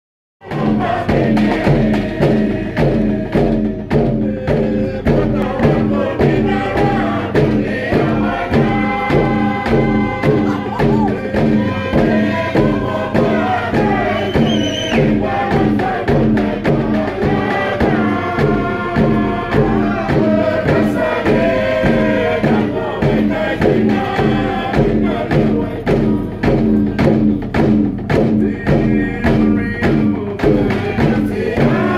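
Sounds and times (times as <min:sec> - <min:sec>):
group of voices chanting: 0:00.4 - 0:26.6, 0:28.4 - 0:31.9
steady drumbeat: 0:00.4 - 0:31.9.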